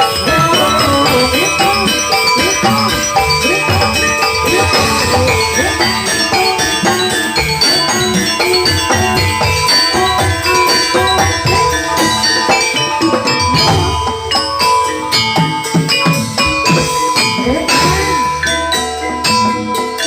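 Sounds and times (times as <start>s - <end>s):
drums: 0.0s - 20.0s
metallophones ringing: 0.0s - 20.0s.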